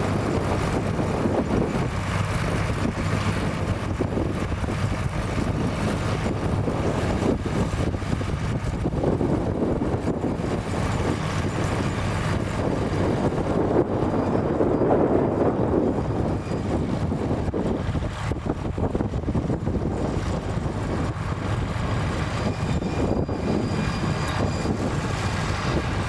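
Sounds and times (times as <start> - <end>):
tractor engine running: 0.0 - 26.0
wind buffeting microphone: 0.0 - 26.0.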